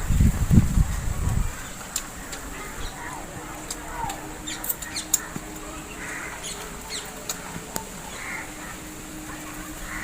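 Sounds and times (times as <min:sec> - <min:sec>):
small birds chirping: 0:01.1 - 0:10.0.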